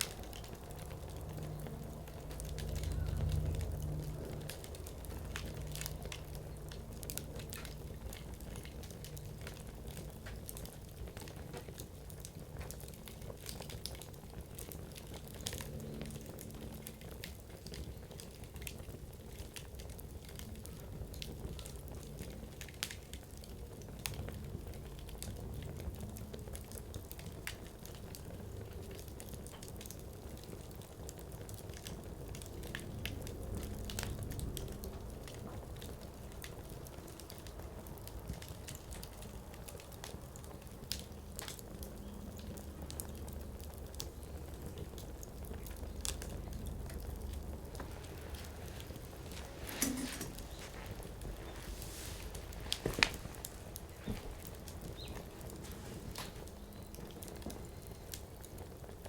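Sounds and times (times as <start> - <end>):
campfire flame rushing: 0.0 - 59.0
wood crackling and popping: 0.0 - 59.0.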